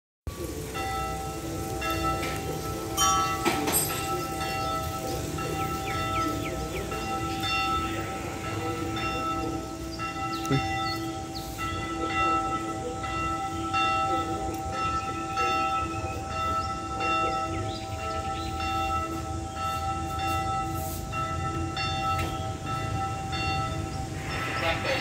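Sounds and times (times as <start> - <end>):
church bell tolling: 0.3 - 25.0.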